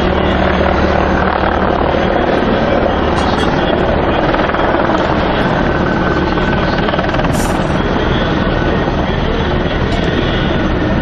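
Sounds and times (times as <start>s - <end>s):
helicopter flying low past: 0.0s - 11.0s.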